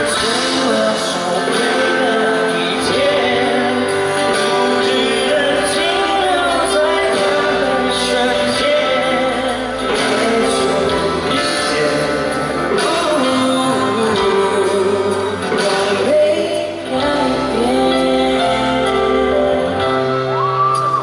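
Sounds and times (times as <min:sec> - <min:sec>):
live pop-rock band: 0:00.0 - 0:21.0
person singing: 0:00.0 - 0:21.0.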